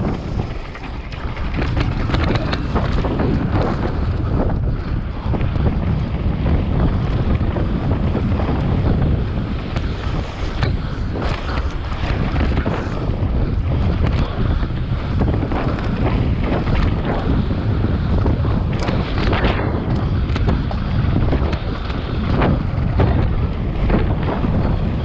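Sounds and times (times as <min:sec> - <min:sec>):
bike rattling and knocking: 0:00.0 - 0:25.0
wind buffeting microphone: 0:00.0 - 0:25.0.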